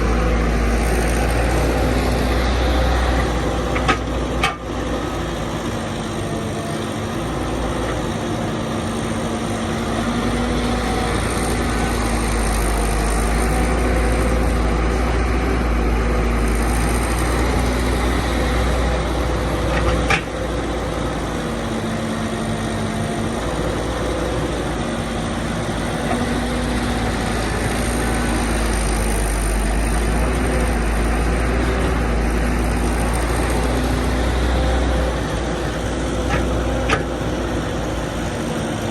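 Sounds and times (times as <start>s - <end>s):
excavator engine rumbling: 0.0s - 38.9s.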